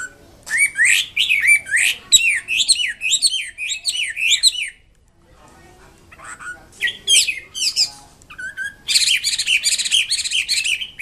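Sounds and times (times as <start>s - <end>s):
bird singing whistled notes: 0.0s - 4.8s, 6.3s - 11.0s.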